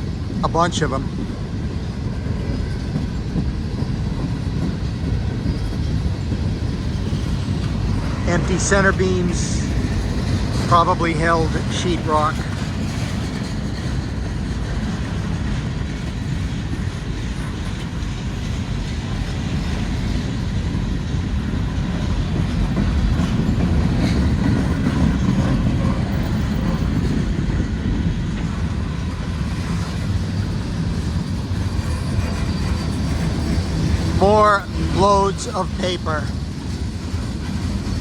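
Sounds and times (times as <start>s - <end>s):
train wheels on rail: 0.0s - 38.0s.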